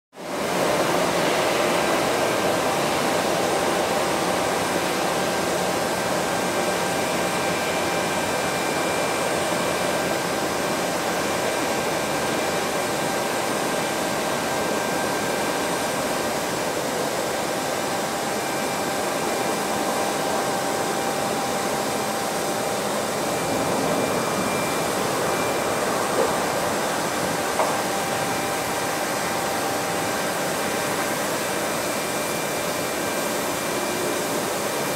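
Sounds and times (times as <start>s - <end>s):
jet turbine roar: 0.2s - 34.9s
faint high whine: 0.6s - 34.9s.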